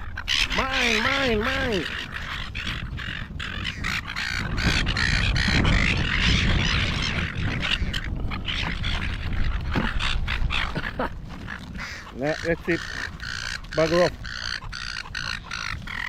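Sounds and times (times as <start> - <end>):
gulls squawking and calling: 0.0 - 16.0.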